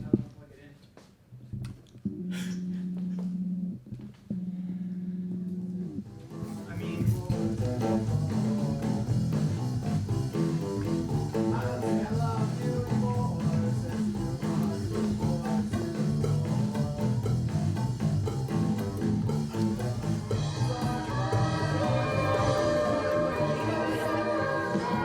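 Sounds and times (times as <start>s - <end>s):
guitar-led band music: 2.1s - 25.0s.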